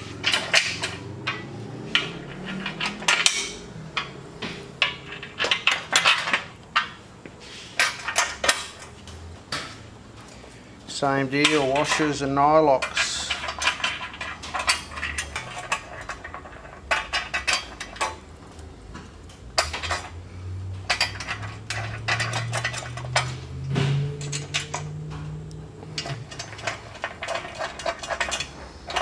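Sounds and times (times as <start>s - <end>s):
washers and nuts clinking on metal: 0.0s - 29.0s.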